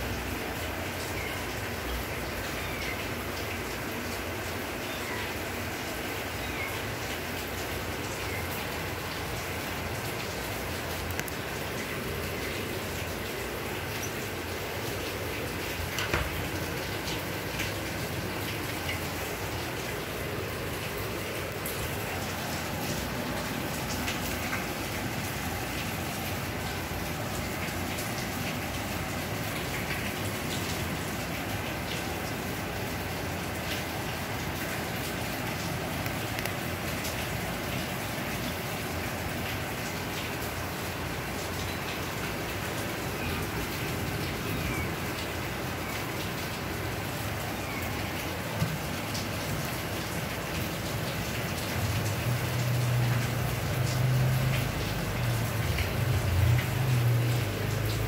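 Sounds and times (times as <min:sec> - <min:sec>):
steady hiss with faint ticks: 0:00.0 - 0:58.0.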